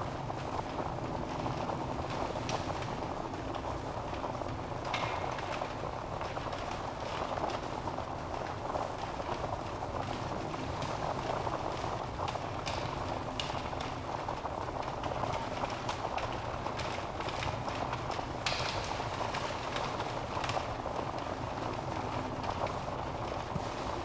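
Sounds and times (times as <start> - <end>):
wood fire hissing and crackling: 0.0 - 24.0.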